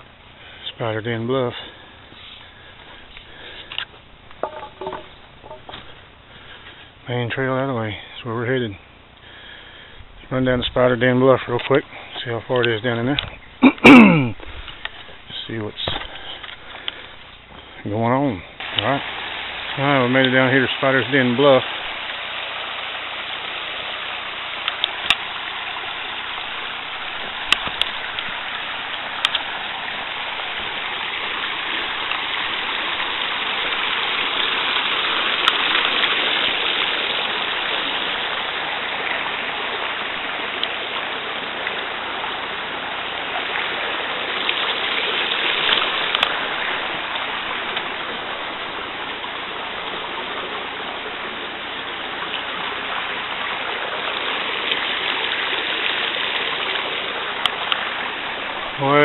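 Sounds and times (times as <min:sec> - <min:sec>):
creek water rushing over rocks: 0:00.0 - 0:07.6, 0:08.4 - 0:59.0.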